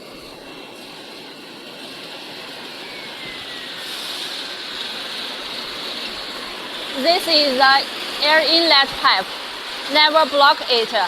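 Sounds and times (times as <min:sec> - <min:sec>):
air blower running: 0:00.0 - 0:11.0.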